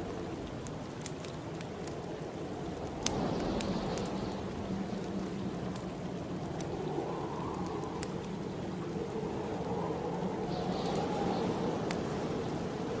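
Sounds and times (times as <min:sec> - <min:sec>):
howling snowstorm wind: 0:00.0 - 0:13.0
wood fire crackling: 0:00.0 - 0:13.0.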